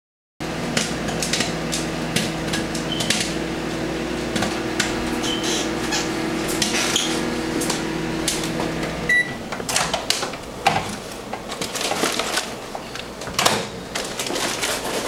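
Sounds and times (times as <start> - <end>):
electrical hum: 0.4 - 15.0
footsteps on kitchen floor: 0.7 - 15.0.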